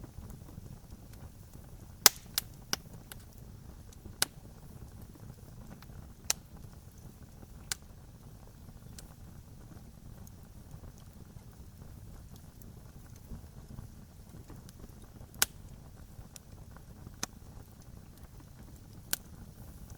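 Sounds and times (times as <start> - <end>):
campfire crackling and popping: 0.0 - 19.9
low hiss of flames: 0.0 - 19.9.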